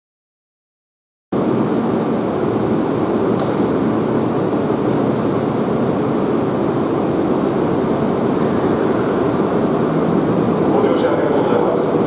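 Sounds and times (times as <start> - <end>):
electric train equipment running: 1.4 - 12.0.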